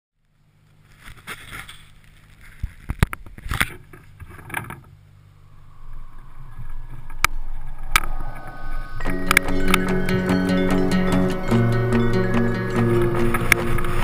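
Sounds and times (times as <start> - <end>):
low steady rumble: 0.2 - 14.0.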